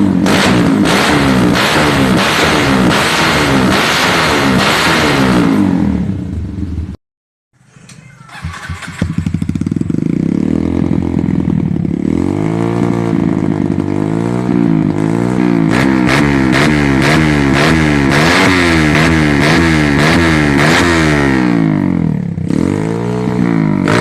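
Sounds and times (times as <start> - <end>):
motorcycle engine revving: 0.0 - 7.0, 8.1 - 24.0.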